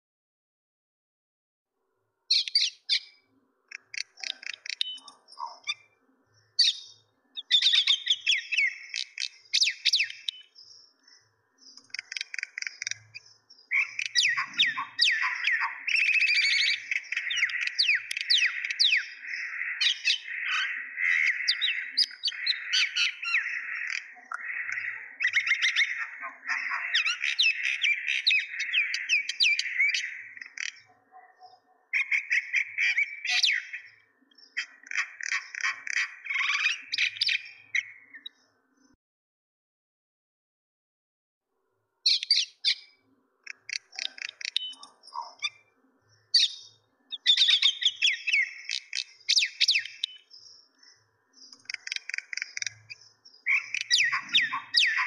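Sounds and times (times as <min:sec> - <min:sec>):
mynas chattering and calling: 0:02.3 - 0:10.5, 0:11.3 - 0:38.4, 0:42.1 - 0:55.0.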